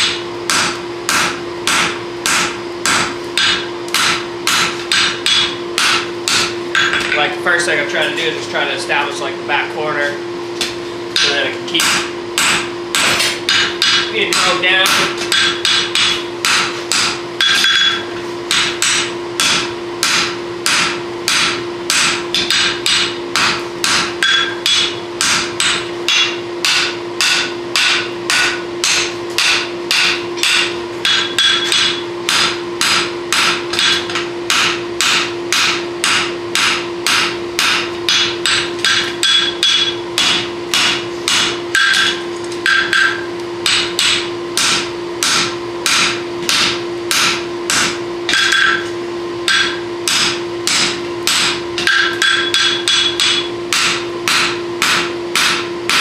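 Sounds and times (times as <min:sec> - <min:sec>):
hammer ringing on anvil: 0:00.0 - 0:07.2, 0:11.2 - 0:56.0
steady low hum: 0:00.0 - 0:56.0.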